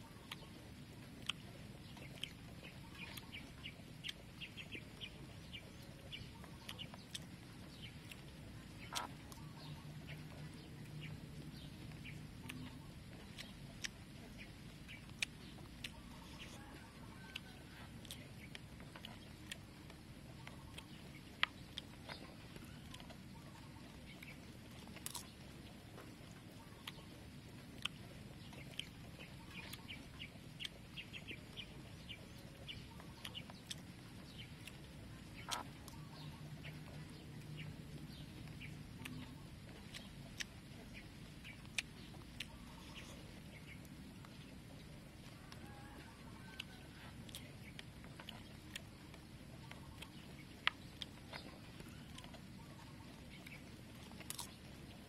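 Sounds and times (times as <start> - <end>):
chewing and mouth smacking: 0.0 - 55.0.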